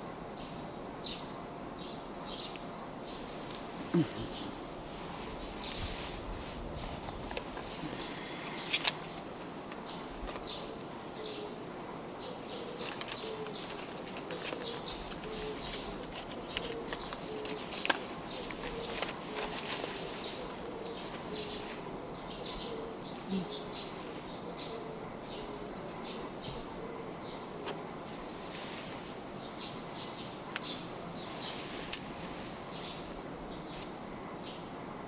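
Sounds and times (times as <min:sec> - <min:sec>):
birds chirping: 0:00.4 - 0:34.9.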